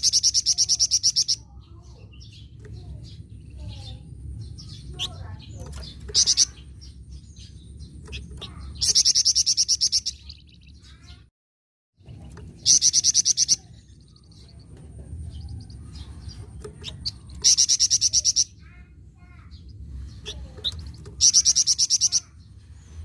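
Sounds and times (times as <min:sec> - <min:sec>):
bird chattering: 0:00.0 - 0:11.3, 0:12.0 - 0:22.5.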